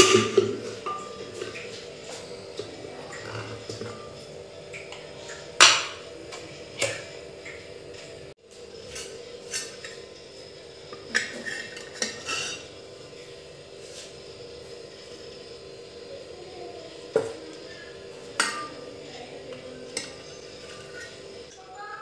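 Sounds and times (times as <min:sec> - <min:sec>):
steady hum: 0:00.0 - 0:21.8.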